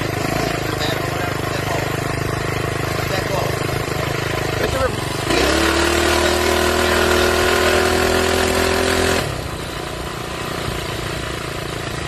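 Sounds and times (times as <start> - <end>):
small engine buzzing at high revs: 0.0 - 12.0.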